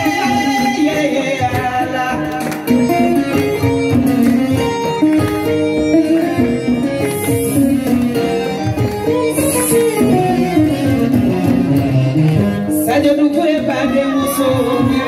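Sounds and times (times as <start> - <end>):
percussion: 0.0 - 15.0
plucked string melody: 0.0 - 15.0.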